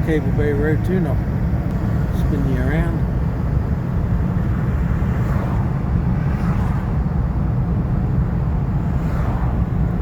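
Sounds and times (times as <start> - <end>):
engine and tyre rumble in cab: 0.0 - 10.0.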